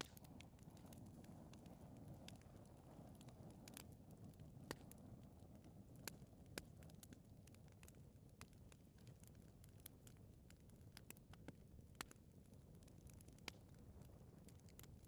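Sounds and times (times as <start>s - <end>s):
fire burning: 0.0s - 15.0s
fire crackling and popping: 0.0s - 15.0s.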